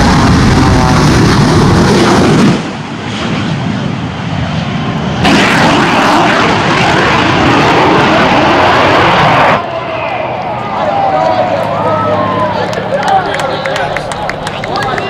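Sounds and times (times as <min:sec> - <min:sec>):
biplane engine at full power: 0:00.0 - 0:15.0
jet engines roaring: 0:00.0 - 0:15.0.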